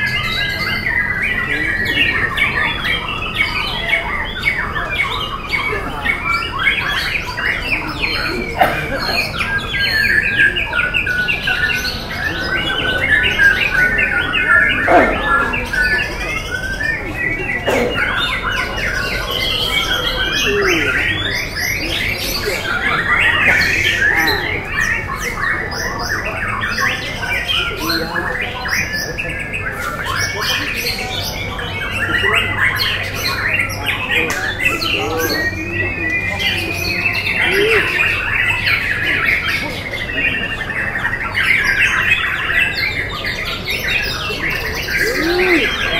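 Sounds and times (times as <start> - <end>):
birds singing fast whistled trills: 0.0 - 45.9.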